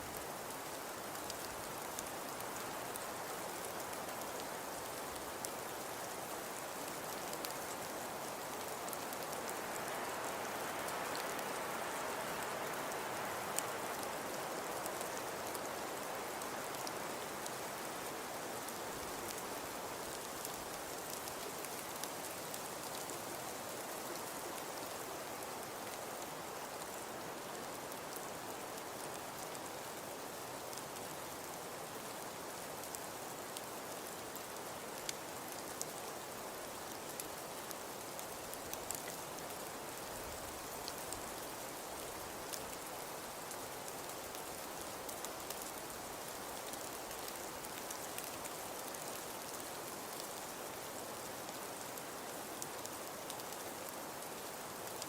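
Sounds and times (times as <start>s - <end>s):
hiss of falling precipitation: 0.0s - 55.0s.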